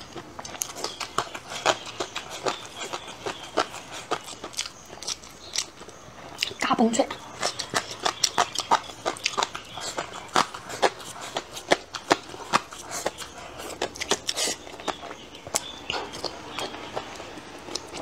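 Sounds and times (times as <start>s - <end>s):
person chewing meat: 0.0s - 18.0s.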